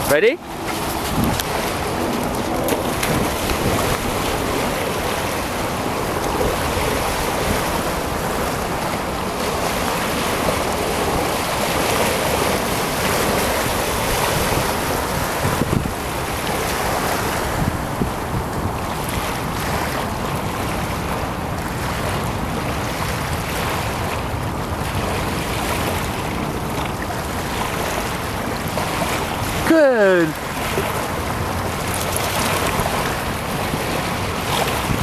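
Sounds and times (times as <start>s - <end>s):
waves lapping: 0.0s - 35.0s
wind buffeting microphone: 0.0s - 35.0s.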